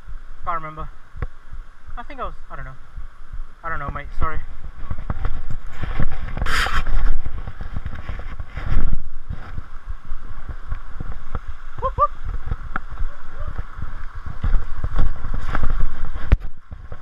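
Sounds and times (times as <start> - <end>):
wind and brush on microphone: 0.0 - 17.0.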